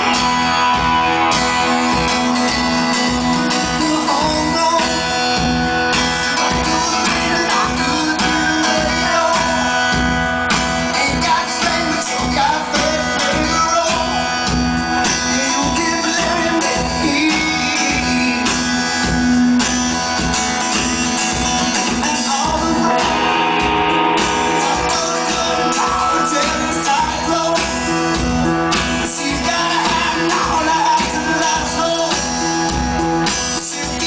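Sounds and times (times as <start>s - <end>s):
man singing: 0.0s - 19.7s, 21.3s - 34.0s
acoustic guitar: 0.0s - 34.0s
steady drum beat: 0.0s - 34.0s.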